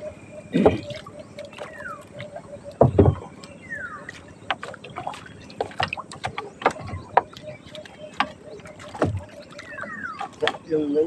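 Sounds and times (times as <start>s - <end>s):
fishing net hauled over boat side: 0.1s - 11.0s
clicks and knocks against hull: 0.7s - 10.7s.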